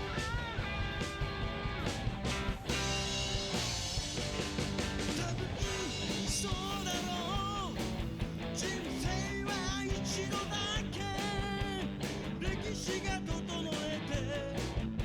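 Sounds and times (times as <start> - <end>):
rock music: 0.0 - 15.0
sung or lead melody: 0.0 - 15.0.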